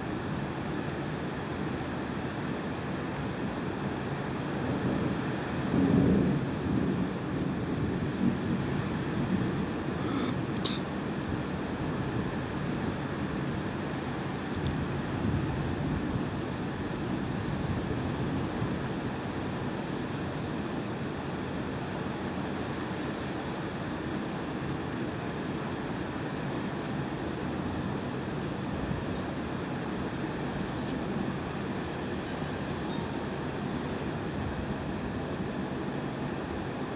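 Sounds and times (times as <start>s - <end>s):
cricket chirping: 0.0s - 6.2s, 8.8s - 18.3s, 19.3s - 34.9s.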